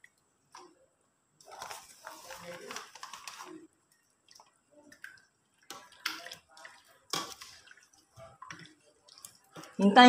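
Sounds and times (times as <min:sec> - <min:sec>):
ladle stirring thick sauce: 0:01.4 - 0:09.9.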